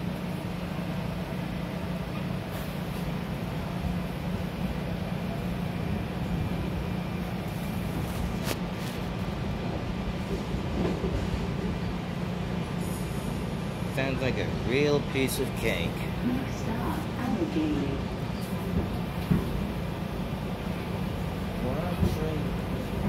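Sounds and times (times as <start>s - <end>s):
railcar interior rumble: 0.0s - 23.0s.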